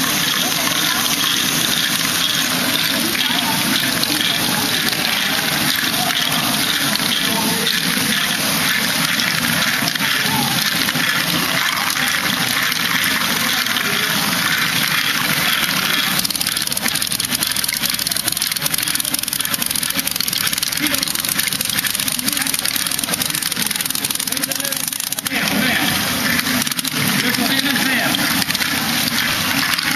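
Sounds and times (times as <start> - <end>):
motors and gears running: 0.0 - 29.9
plastic balls rolling and clattering: 0.0 - 29.9.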